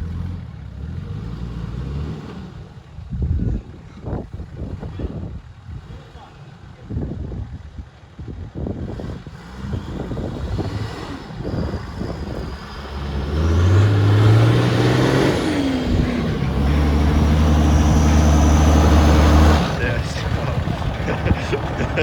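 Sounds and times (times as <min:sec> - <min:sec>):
off-road vehicle engine under load: 0:00.0 - 0:22.0.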